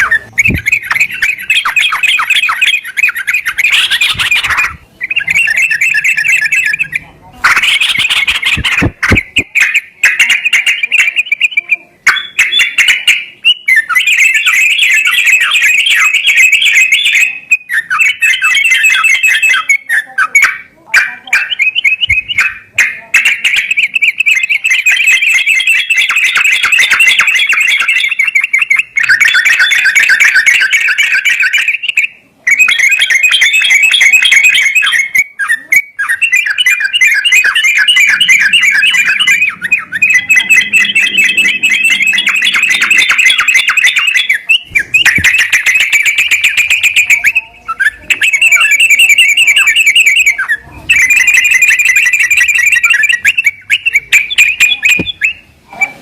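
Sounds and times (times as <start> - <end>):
songbird chattering trills: 0.0 - 55.5.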